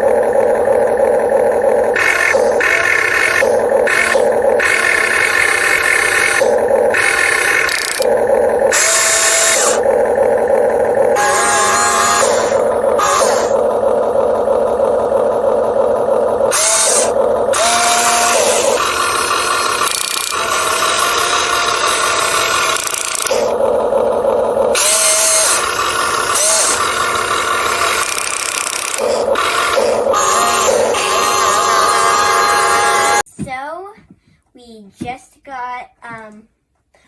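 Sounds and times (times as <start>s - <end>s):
toy electric gear motors whining: 0.0s - 33.3s.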